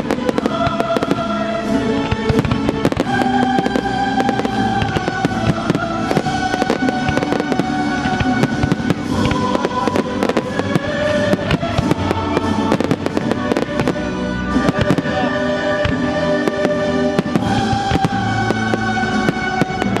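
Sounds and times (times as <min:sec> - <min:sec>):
fireworks bangs and crackles: 0:00.0 - 0:20.0
music with held notes: 0:00.0 - 0:20.0.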